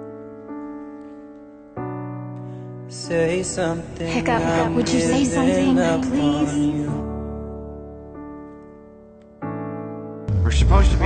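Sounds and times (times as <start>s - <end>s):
piano chord and notes: 0.0s - 11.0s.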